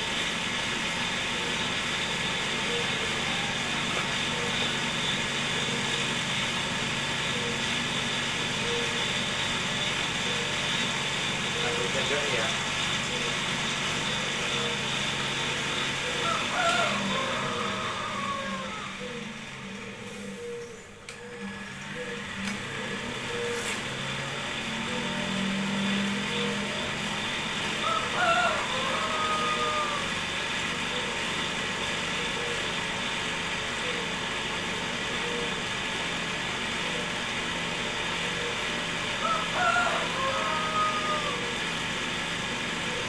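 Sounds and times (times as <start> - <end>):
motor humming and whirring: 0.0 - 43.0.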